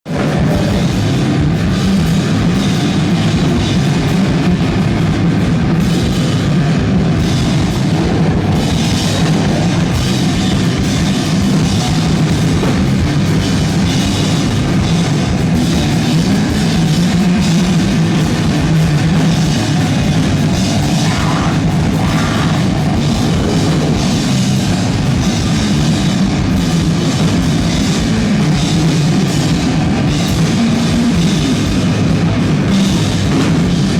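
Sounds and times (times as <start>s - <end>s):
distorted noise band playing: 0.0s - 33.9s
drums: 0.0s - 33.9s.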